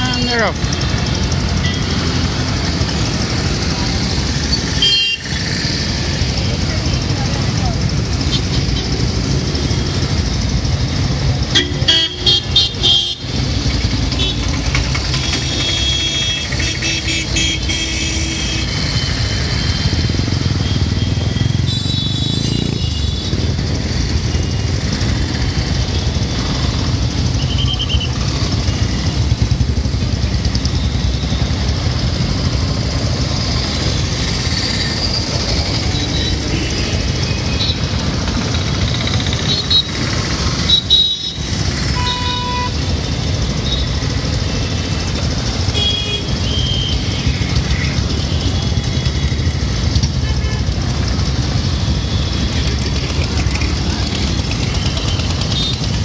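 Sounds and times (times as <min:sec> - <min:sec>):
engine rumble of passing vehicles: 0:00.0 - 0:56.0.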